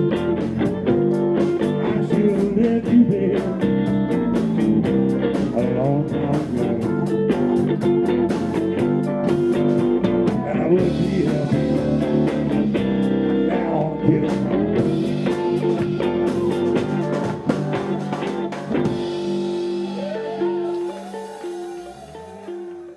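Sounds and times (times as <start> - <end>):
blues band playing: 0.0 - 22.9
guitar repeated notes: 0.0 - 22.9.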